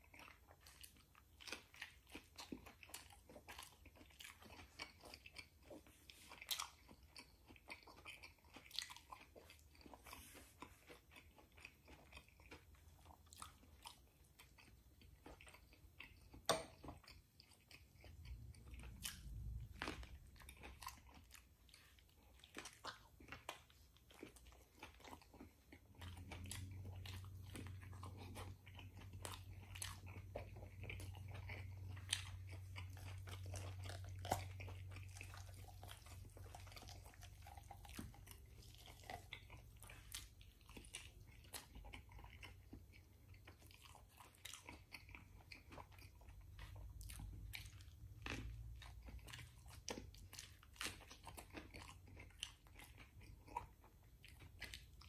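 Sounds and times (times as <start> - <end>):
chewing with wet smacks: 0.0 - 55.0.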